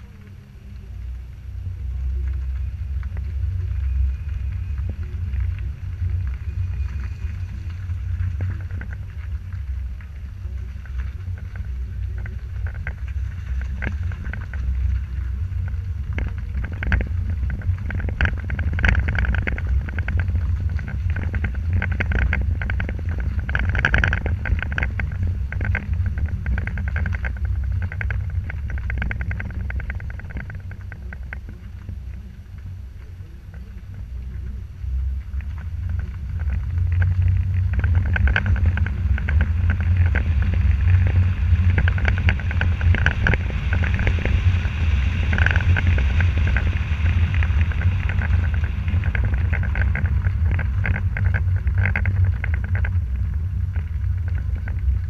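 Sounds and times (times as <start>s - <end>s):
car engine and road rumble: 0.0s - 55.0s
clicks and crackles: 0.0s - 55.0s.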